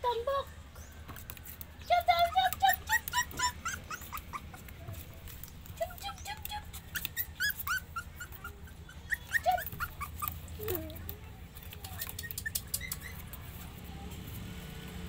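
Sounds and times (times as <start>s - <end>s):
scratchy rustling and clicks: 1.1s - 8.5s, 9.4s - 14.5s
puppies whimpering and squeaking: 1.1s - 13.9s.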